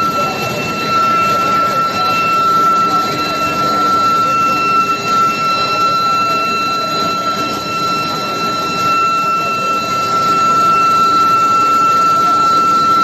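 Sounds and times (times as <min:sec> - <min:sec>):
furnace high-pitched whine: 0:00.0 - 0:13.0
noisy mechanical background: 0:00.0 - 0:13.0.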